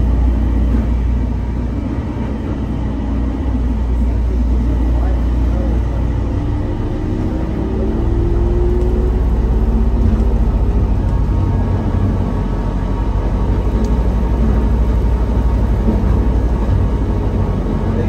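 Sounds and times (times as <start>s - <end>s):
people mover wheels rumbling: 0.0s - 18.0s.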